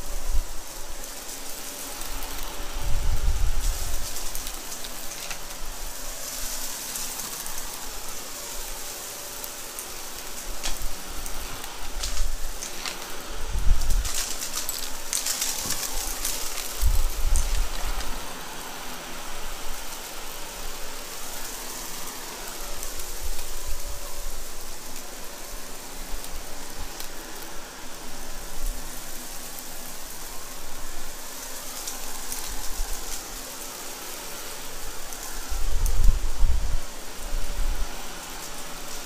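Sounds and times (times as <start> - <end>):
debris crackling in vacuum: 0.0 - 39.0
vacuum cleaner running: 0.0 - 39.0.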